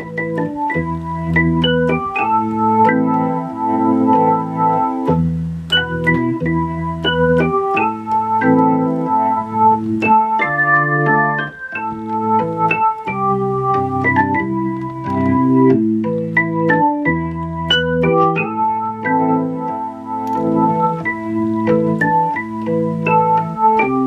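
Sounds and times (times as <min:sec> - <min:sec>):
electronic organ melody and chords: 0:00.0 - 0:24.0.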